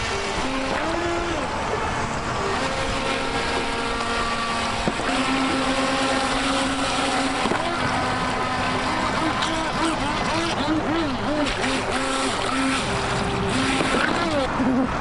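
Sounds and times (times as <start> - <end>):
creek water rushing: 0.0 - 15.0
toy boat electric motors whining: 0.0 - 15.0.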